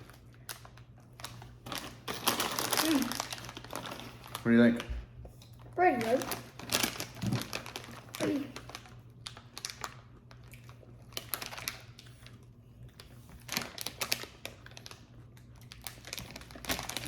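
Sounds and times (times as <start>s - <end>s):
plastic candy pouch crinkling: 0.0s - 4.8s, 5.8s - 12.4s, 13.3s - 17.0s.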